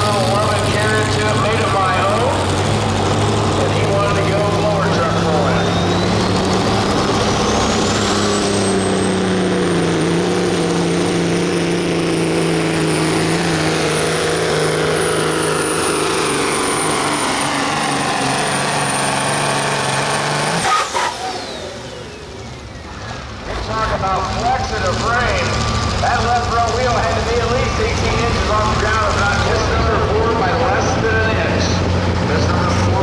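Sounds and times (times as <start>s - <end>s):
diesel truck engine at full throttle: 0.0s - 33.0s
turbocharger whine: 0.0s - 33.0s.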